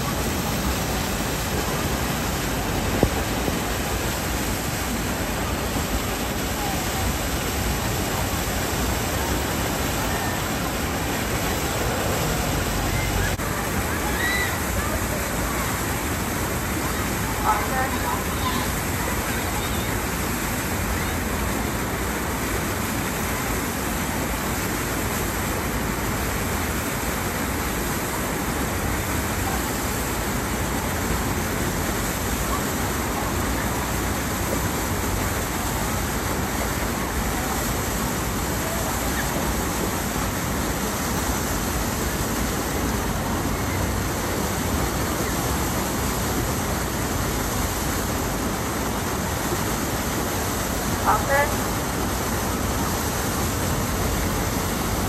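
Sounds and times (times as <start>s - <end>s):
water rushing through channel: 0.0s - 55.0s.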